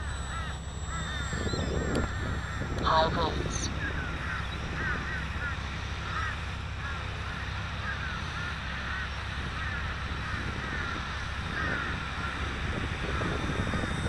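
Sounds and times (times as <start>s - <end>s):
birds calling: 0.0s - 14.0s
wind rumble on microphone: 0.0s - 14.0s.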